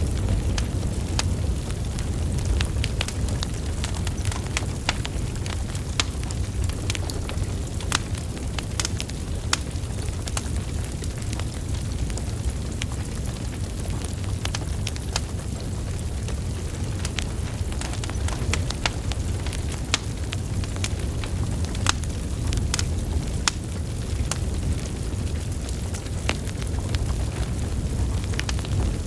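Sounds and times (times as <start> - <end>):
low rumble of flame: 0.0 - 29.0
wood fire crackling and popping: 0.0 - 29.0.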